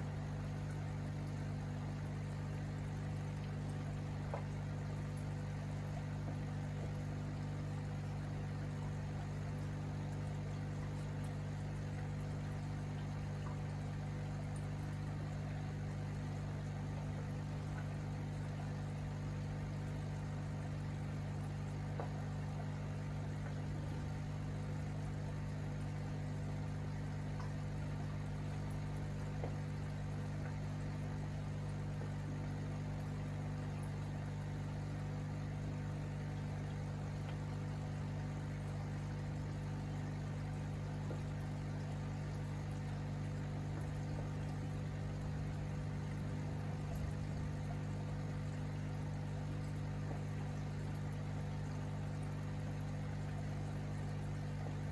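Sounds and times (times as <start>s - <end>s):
aquarium equipment humming: 0.0s - 54.9s
bubbling water trickle: 0.0s - 54.9s.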